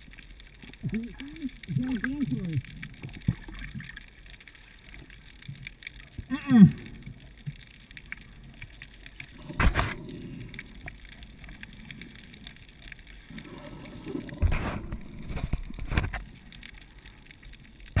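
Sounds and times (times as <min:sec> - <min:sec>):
low underwater rumble: 0:00.0 - 0:18.0.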